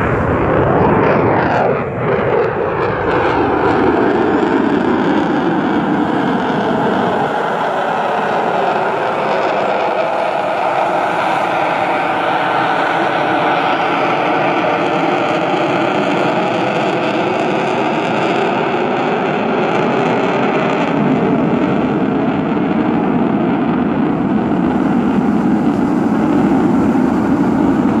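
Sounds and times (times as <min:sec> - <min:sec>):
distant jet engine roar: 0:00.0 - 0:28.0.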